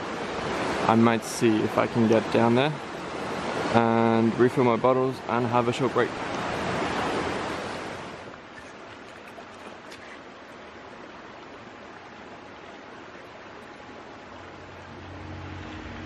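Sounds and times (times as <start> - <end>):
river running over rocks: 0.0 - 16.0.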